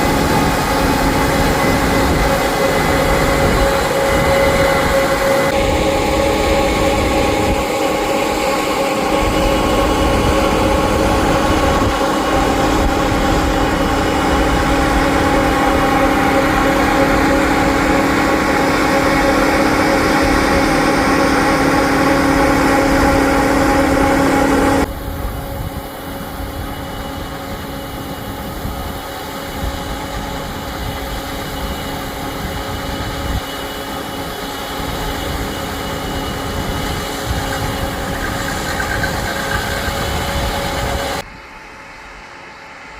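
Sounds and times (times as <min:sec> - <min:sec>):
farm machinery engine running: 0:00.0 - 0:41.2.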